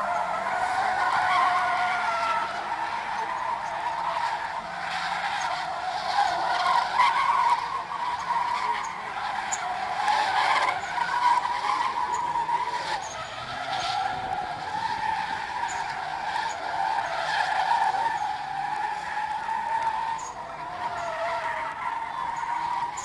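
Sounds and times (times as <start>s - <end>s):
tyres screeching: 0.0s - 23.0s.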